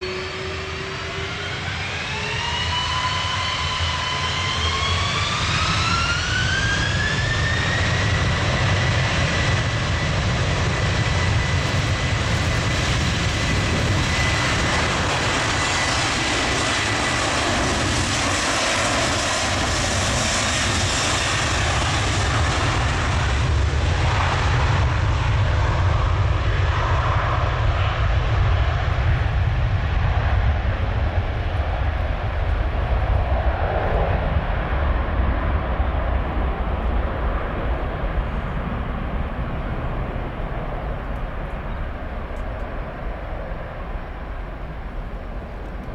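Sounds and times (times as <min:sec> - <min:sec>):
airliner take-off roar: 0:00.0 - 0:45.9
jet engines whining: 0:00.0 - 0:45.9.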